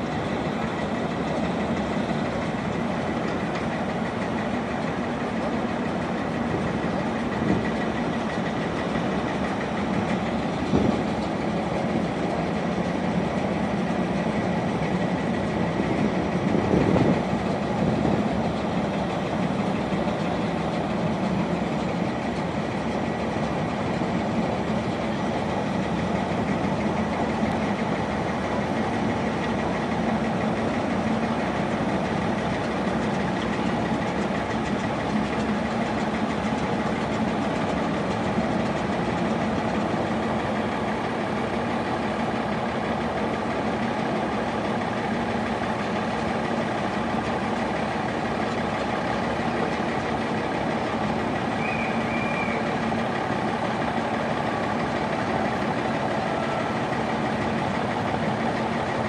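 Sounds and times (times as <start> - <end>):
diesel locomotive engine idling: 0.0 - 59.0.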